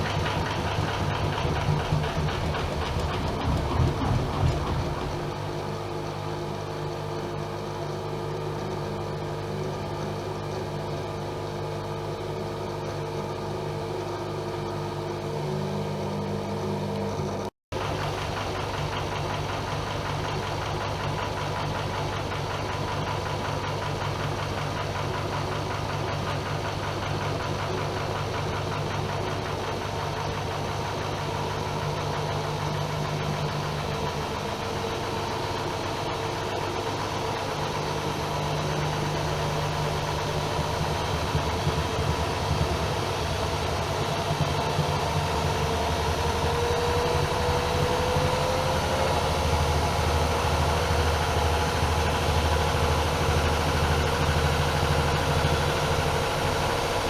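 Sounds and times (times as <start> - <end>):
washing machine motor and drum: 0.0 - 57.0.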